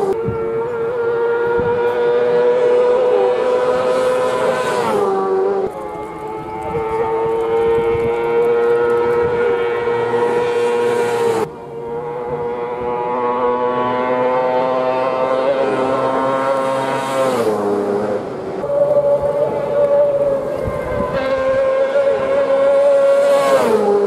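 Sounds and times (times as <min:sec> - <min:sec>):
racing engines at full throttle: 0:00.0 - 0:24.0.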